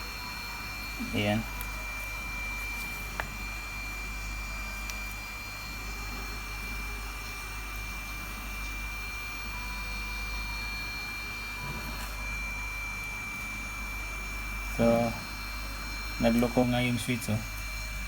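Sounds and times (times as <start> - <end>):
fan whirring: 0.0 - 18.0
thin high-pitched whine: 0.0 - 18.0.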